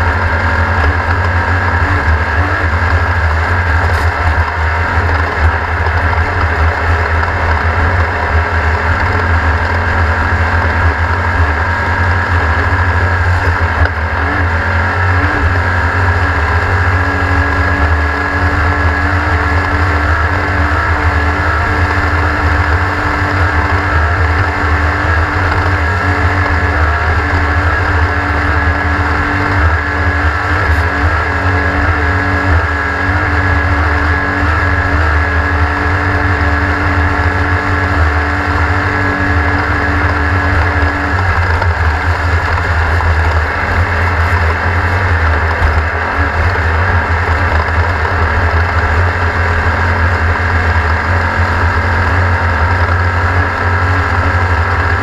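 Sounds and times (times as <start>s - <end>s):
race car engine rumbling: 0.0s - 55.0s.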